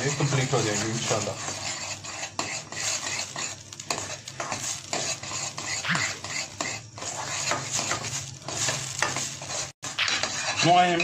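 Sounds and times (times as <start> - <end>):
mixture sizzling in oil: 0.0 - 11.0
spoon scraping a steel pot: 0.0 - 11.0.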